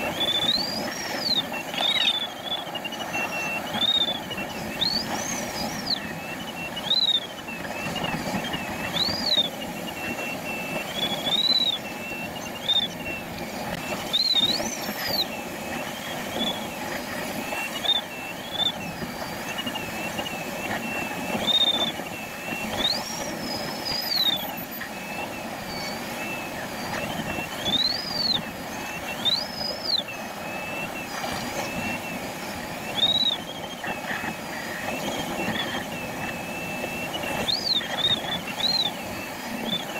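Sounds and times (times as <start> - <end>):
variometer tone swooping in pitch: 0.0 - 39.9.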